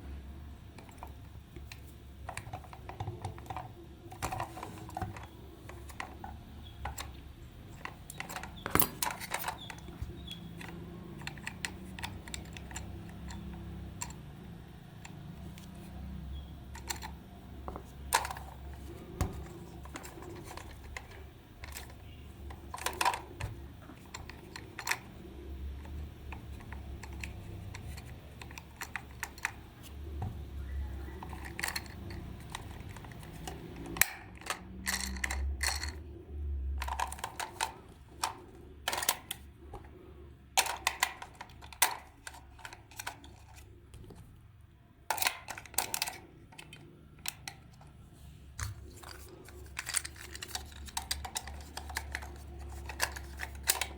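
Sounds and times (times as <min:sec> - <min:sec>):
small hard parts clicking: 0:00.7 - 0:44.2, 0:45.0 - 0:48.0, 0:48.6 - 0:53.9.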